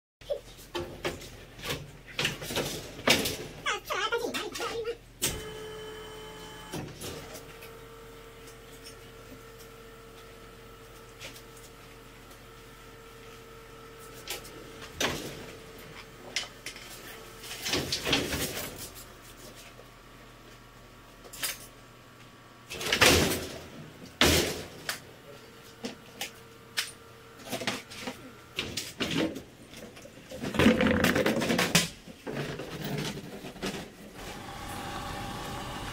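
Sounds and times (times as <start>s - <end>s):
bin lifting mechanism humming: 5.1s - 35.9s.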